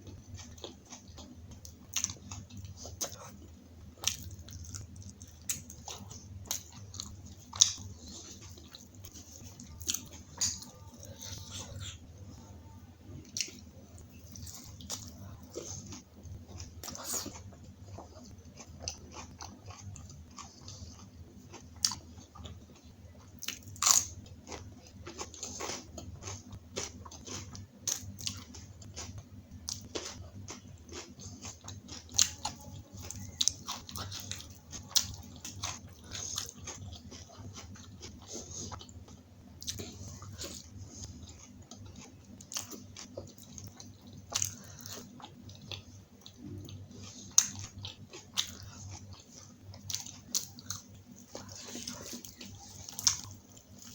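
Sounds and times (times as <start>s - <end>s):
chewing and biting food: 0.0s - 12.1s, 13.3s - 53.9s
steady low hum: 0.0s - 53.9s.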